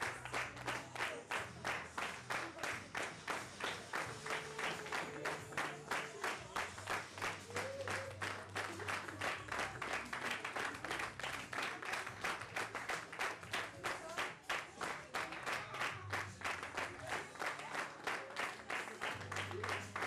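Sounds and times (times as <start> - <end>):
audience clapping in unison: 0.0 - 20.0.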